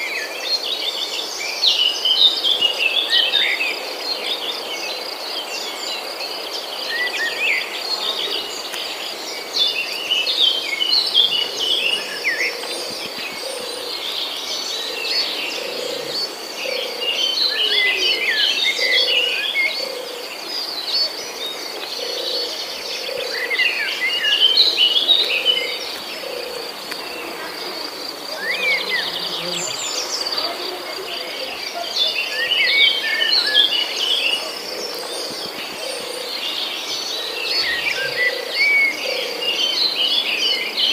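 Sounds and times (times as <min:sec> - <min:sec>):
birds twittering: 0:01.3 - 0:40.9
insects trilling: 0:06.6 - 0:39.5.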